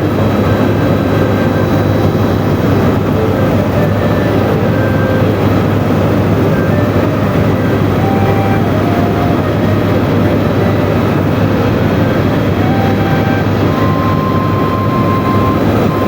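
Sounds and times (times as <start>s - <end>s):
helicopter engine and rotors droning: 0.0s - 16.0s.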